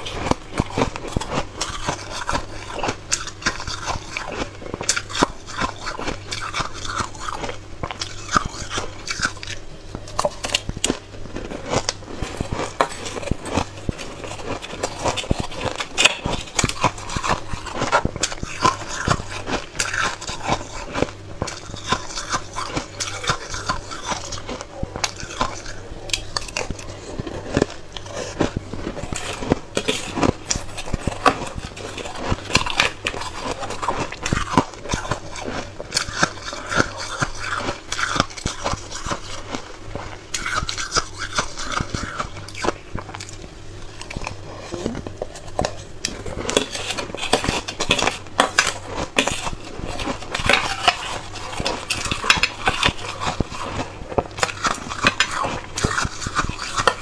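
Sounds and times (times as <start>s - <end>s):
chewing and crunching ice: 0.0s - 57.0s.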